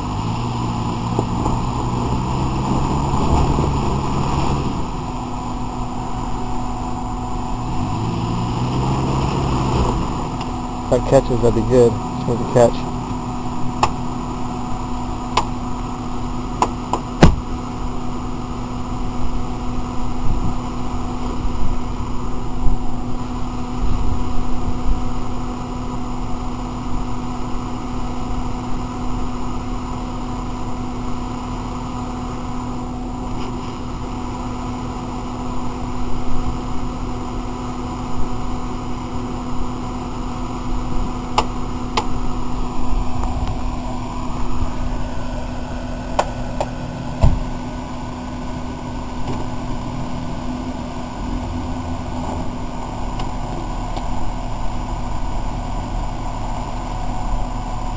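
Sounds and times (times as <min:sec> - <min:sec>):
suv engine rumbling at low revs: 0:00.0 - 0:57.9.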